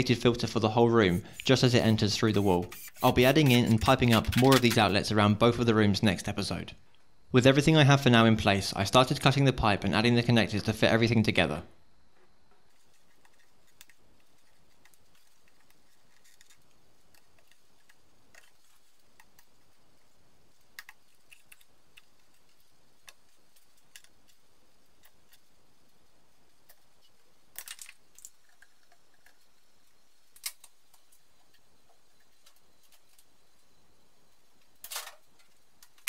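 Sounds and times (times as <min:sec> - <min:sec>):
low steady hiss: 0:00.0 - 0:36.0.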